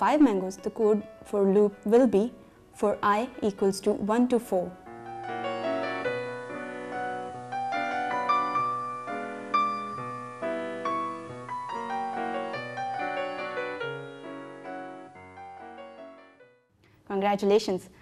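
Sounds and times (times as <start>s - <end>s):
piano music: 0.0s - 16.7s.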